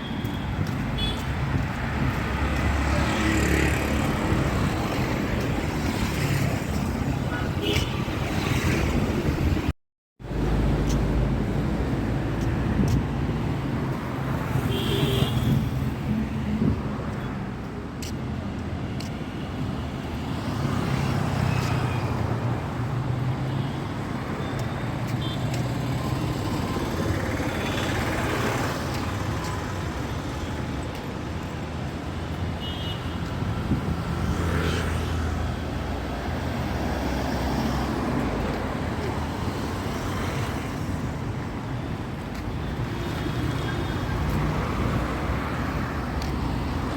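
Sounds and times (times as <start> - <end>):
vehicles passing close by: 0.0 - 46.9.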